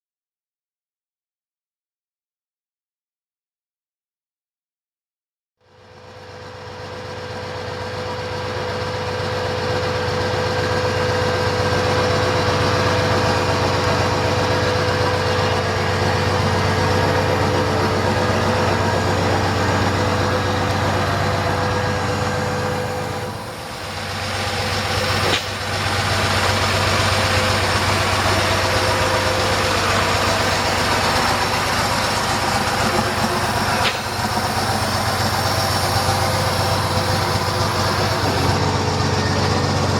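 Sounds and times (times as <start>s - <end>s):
vehicle engine idling: 5.7s - 39.9s.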